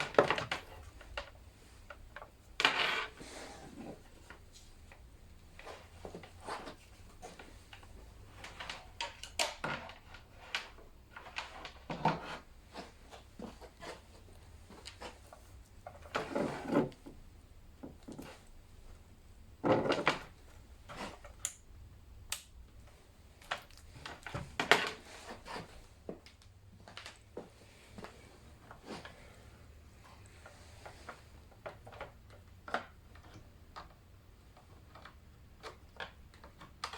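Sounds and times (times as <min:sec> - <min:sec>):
gear and cables clicking and rattling: 0:00.0 - 0:03.2, 0:03.8 - 0:17.2, 0:19.6 - 0:36.9.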